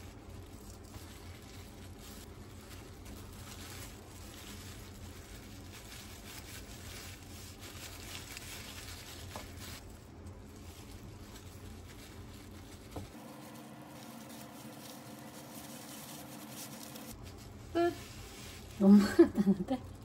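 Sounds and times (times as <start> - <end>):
plastic gloves crinkling: 0.0 - 20.0
steady low hum: 0.0 - 20.0.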